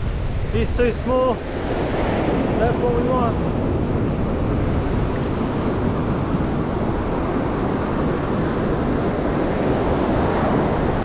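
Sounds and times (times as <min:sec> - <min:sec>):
surf washing over shallows: 0:00.0 - 0:11.0
wind buffeting microphone: 0:00.0 - 0:11.0.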